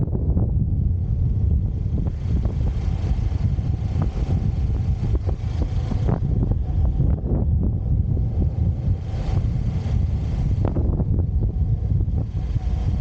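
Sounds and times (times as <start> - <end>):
road noise: 0.0 - 13.0
wind rumble on microphone: 0.0 - 13.0
motorcycle engine: 0.8 - 13.0.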